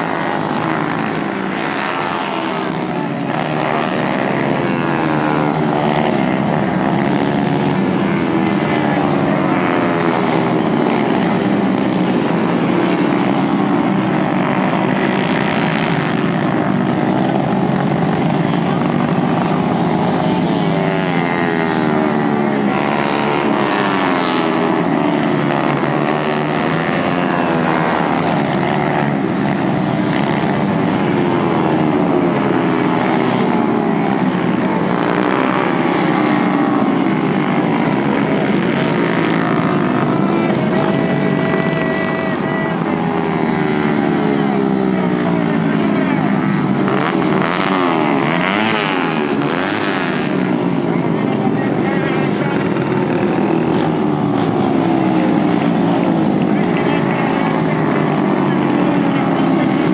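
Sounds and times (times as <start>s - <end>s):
racing motorcycles revving: 0.0s - 59.9s.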